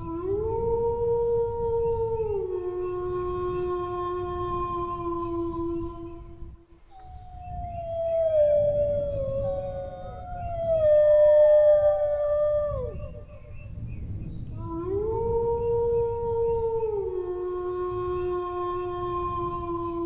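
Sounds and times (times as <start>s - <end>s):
dogs howling: 0.0s - 6.1s, 7.4s - 13.6s, 14.6s - 20.0s.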